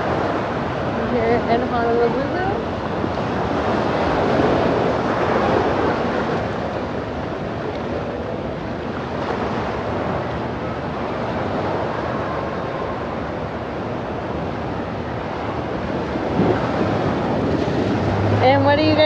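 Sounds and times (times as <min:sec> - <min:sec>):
ocean surf washing ashore: 0:00.0 - 0:19.0
wind on microphone: 0:00.0 - 0:19.0.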